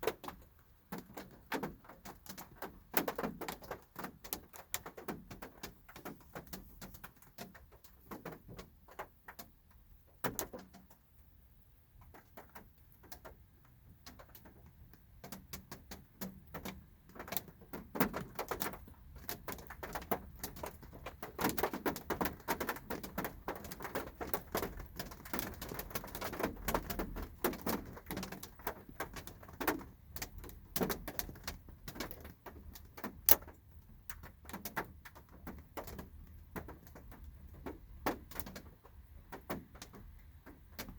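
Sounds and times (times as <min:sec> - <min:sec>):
rain drops tapping on car body: 0:00.0 - 0:40.9.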